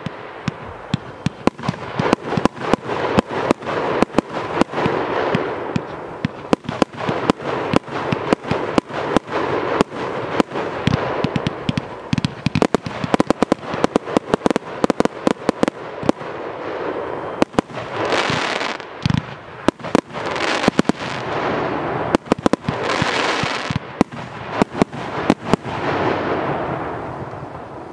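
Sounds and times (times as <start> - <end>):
firework bangs: 0.0 - 27.9
firework crackle: 0.0 - 27.9.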